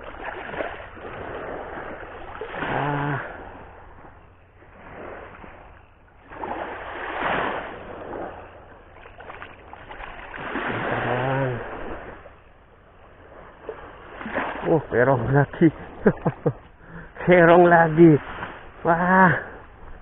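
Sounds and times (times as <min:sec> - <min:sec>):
waves on rocky shore: 0:00.0 - 0:20.0.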